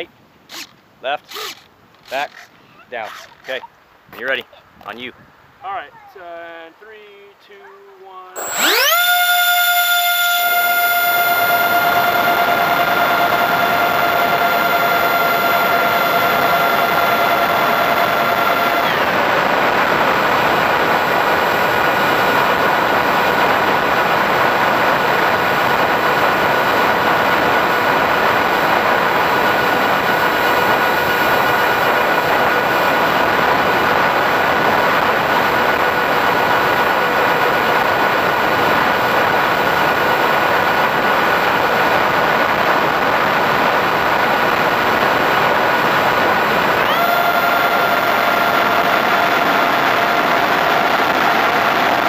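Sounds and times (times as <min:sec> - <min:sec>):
motor whine: 0:08.4 - 0:52.0.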